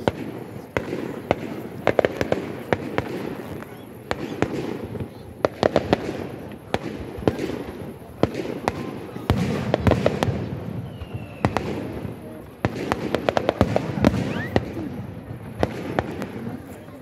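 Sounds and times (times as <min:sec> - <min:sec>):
distant explosions rumbling: 0:00.0 - 0:17.0
fireworks bangs and cracks: 0:00.0 - 0:17.0.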